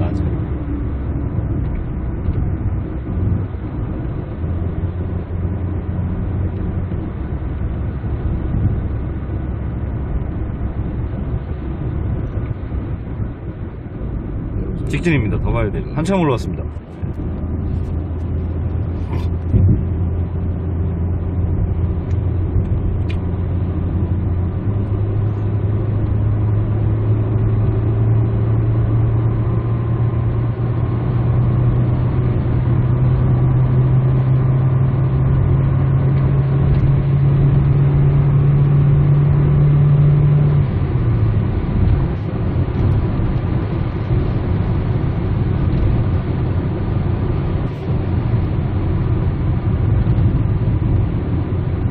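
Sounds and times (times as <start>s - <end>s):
car engine: 0.0s - 51.9s
tyre and road noise: 0.0s - 51.9s.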